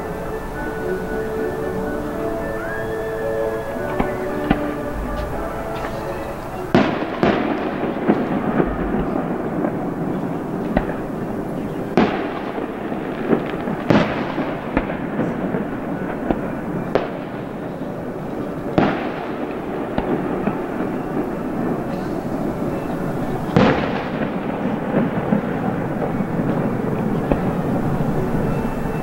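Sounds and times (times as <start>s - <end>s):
fireworks booming with rolling echo: 0.0s - 29.0s
steady background noise: 0.0s - 29.0s
small firework pops: 3.8s - 29.0s.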